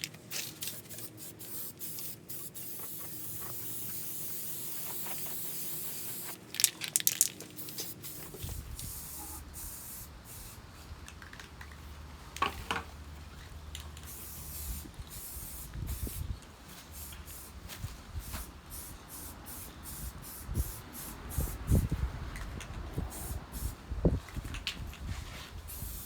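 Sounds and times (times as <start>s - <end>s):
spray paint hissing: 0.3s - 11.6s, 13.7s - 24.2s, 25.6s - 26.0s.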